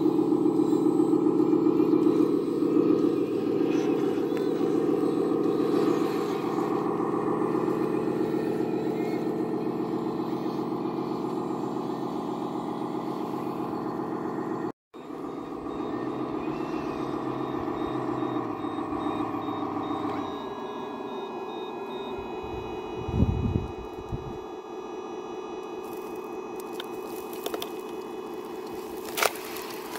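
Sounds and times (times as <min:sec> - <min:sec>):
toy truck engine running: 0:00.0 - 0:29.9.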